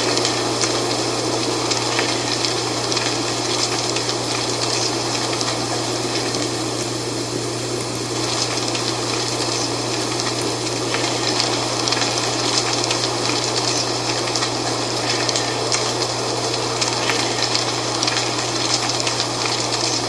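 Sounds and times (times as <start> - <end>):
dry leaves rustling in wind: 0.0 - 20.0.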